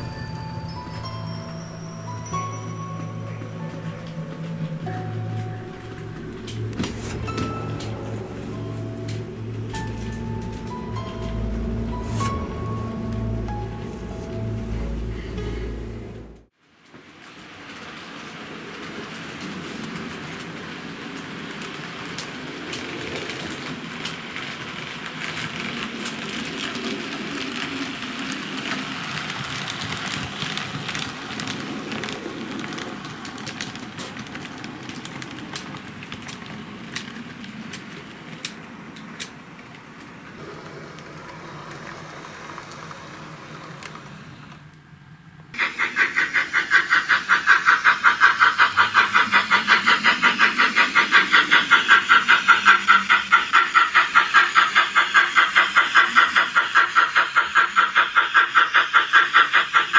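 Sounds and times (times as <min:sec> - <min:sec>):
model train rolling whirr: 0:00.0 - 0:59.9
wheels clicking on rails: 0:00.0 - 0:59.9.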